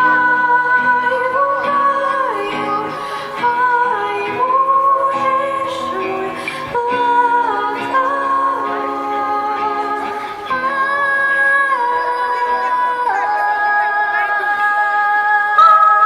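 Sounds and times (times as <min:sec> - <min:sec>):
girls singing slow sad song: 0:00.0 - 0:16.0.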